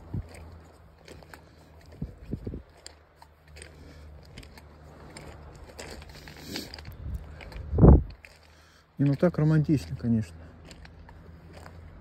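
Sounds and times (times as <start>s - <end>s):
footsteps crunching on pebbles: 0.0s - 12.0s.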